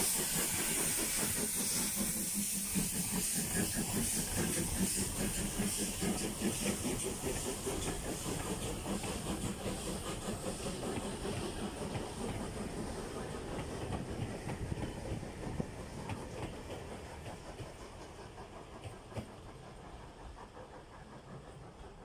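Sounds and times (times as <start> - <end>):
train wheels clicking over rail joints: 0.0 - 22.0.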